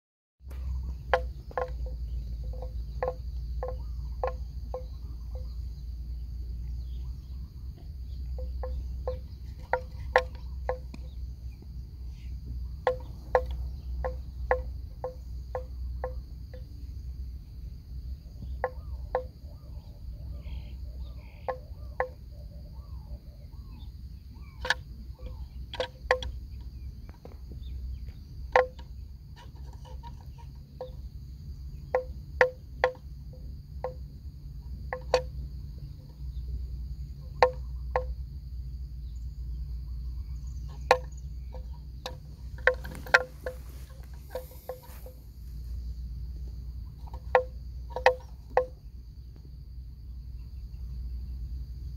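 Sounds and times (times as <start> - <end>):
buffaloes cropping and chewing grass: 0.4 - 22.3, 24.2 - 38.5, 39.1 - 49.6
insect drone: 0.4 - 51.9.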